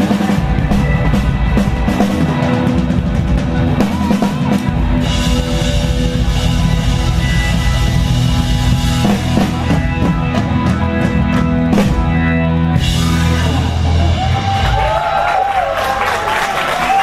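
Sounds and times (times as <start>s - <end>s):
crowd cheering: 0.0s - 17.0s
rock band held chord: 0.0s - 17.0s.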